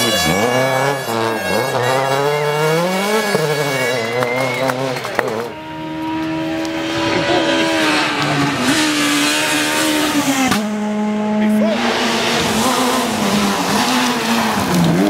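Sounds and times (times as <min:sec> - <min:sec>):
rally car engine at high revs: 0:00.0 - 0:15.0
second rally car engine: 0:00.0 - 0:15.0.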